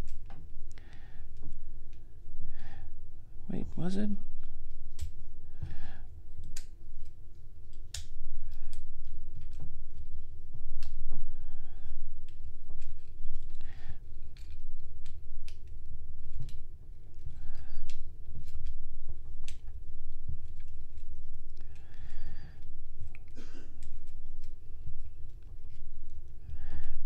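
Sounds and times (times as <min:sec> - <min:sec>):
low steady rumble: 0:00.0 - 0:27.0.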